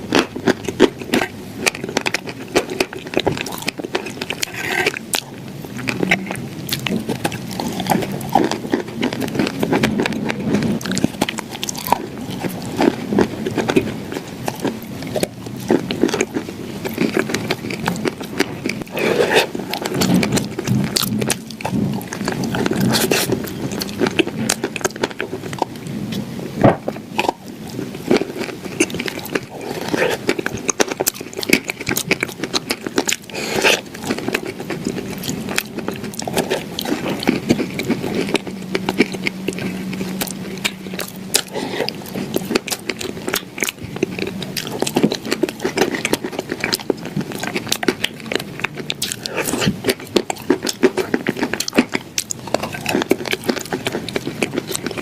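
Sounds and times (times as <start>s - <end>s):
crunching and chewing: 0.0s - 55.0s.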